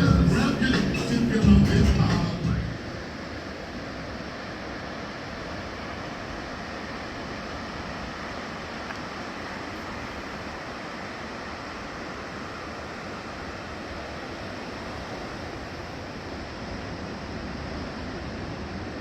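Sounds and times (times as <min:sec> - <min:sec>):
ocean surf breaking waves: 0:00.0 - 0:19.0.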